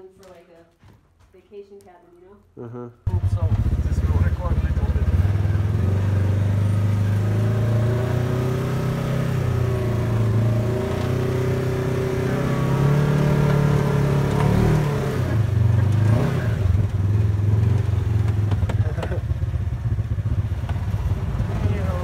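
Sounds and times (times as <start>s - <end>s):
off-road buggy engine running: 3.1s - 22.0s.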